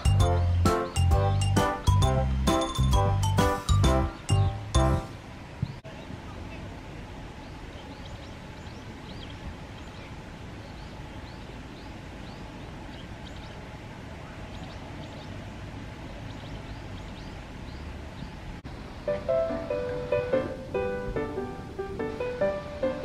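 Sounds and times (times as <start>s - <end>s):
small birds chirping: 0.0s - 19.2s.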